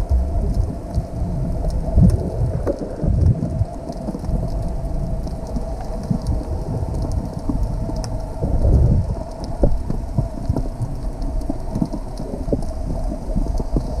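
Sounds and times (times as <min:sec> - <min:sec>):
underwater clicks and crackles: 0:00.0 - 0:14.0
underwater water rumble: 0:00.0 - 0:14.0.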